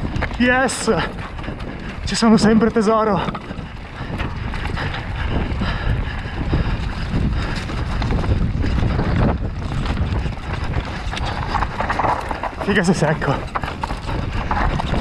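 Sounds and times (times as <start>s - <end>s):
bike knocks and rattles: 0.0s - 15.0s
bike tyre rumble: 0.0s - 15.0s
wind rushing over microphone: 0.0s - 15.0s.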